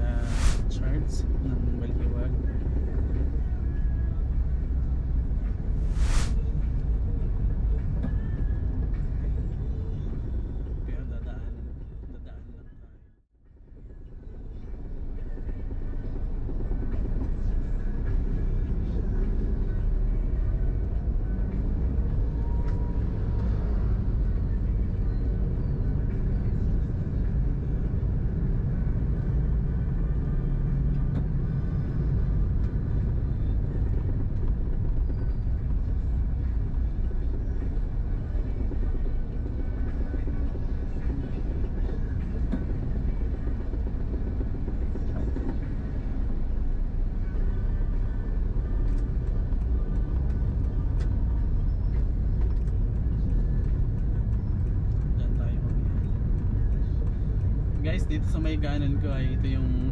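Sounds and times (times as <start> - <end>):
car cabin road and engine rumble: 0.0 - 12.8, 13.7 - 59.9.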